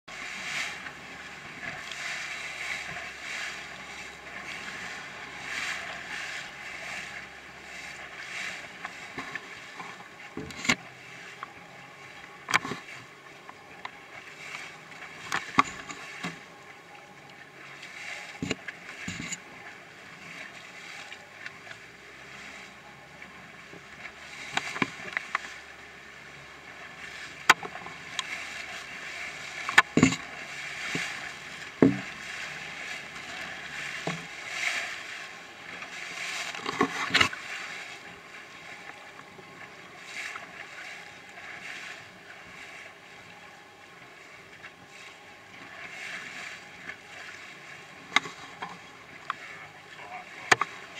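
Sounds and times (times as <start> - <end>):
choppy water splashing: 0.1 - 50.9
hull slapping waves: 0.1 - 50.9.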